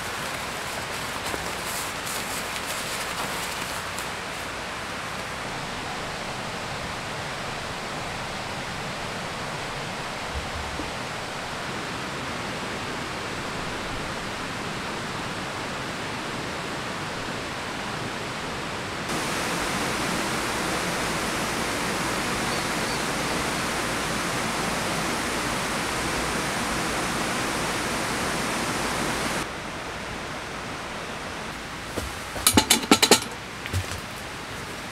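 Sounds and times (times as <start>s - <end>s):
running water rushing: 0.0s - 34.9s.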